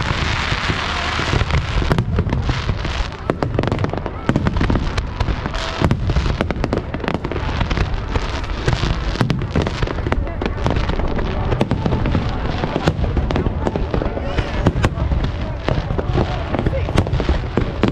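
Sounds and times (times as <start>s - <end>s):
fireworks bangs and cracks: 0.0s - 17.9s
fireworks crackling: 0.0s - 17.9s.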